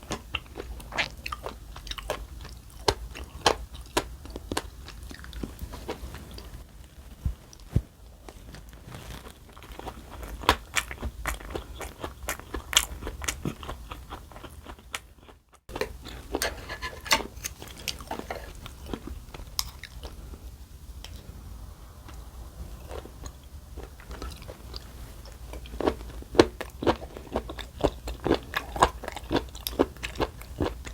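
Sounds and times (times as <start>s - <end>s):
person chewing and crunching: 0.0s - 6.6s, 8.5s - 20.4s, 22.8s - 30.9s.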